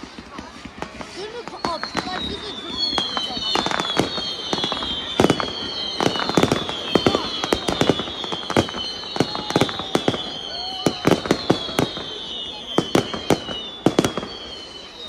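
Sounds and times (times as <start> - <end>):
fireworks bangs and pops: 0.0 - 15.0
high whistling tones gliding down: 1.2 - 15.0.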